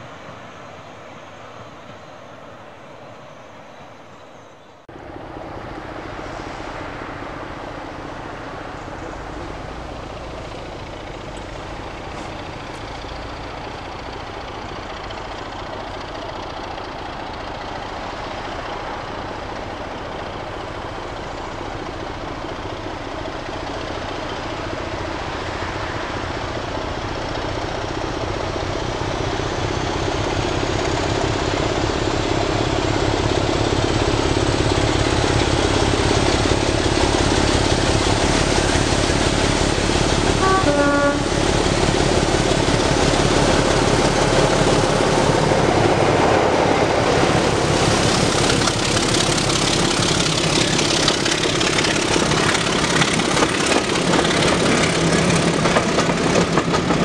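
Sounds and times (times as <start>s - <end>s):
diesel locomotive approaching: 0.0s - 57.0s.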